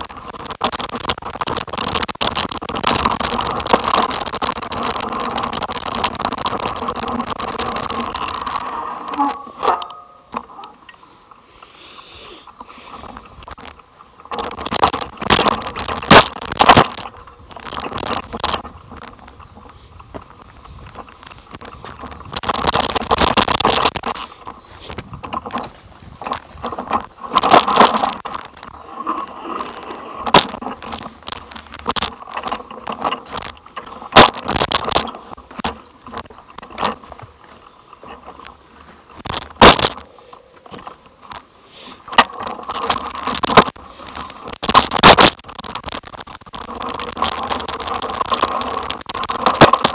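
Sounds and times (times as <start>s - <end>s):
ride rattling over rocky track: 0.0s - 49.9s.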